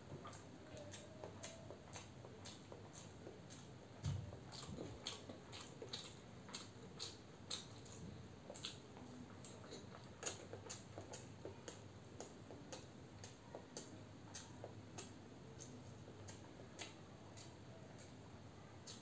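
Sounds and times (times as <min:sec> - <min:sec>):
wet mouth clicks of chewing: 0:00.2 - 0:18.2, 0:18.8 - 0:19.0.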